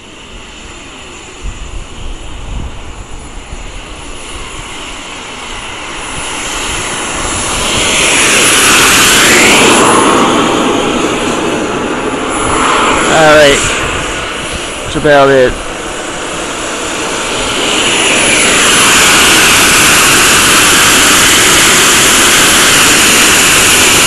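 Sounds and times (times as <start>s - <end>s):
model jet engine roar with whistle: 0.0s - 24.0s.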